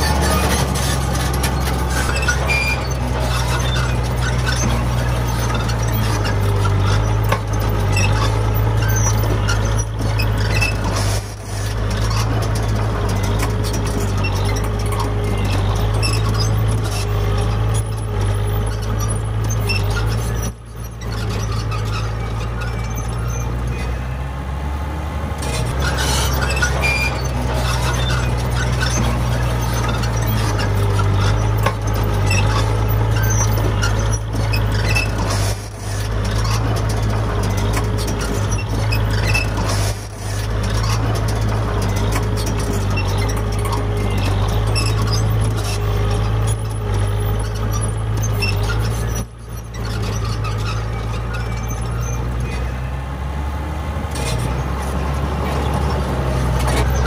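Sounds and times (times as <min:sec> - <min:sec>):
wavering squeal: 0:00.0 - 0:24.3, 0:25.4 - 0:53.0
bulldozer diesel engine droning: 0:00.0 - 0:57.0
track clanks: 0:00.0 - 0:57.0.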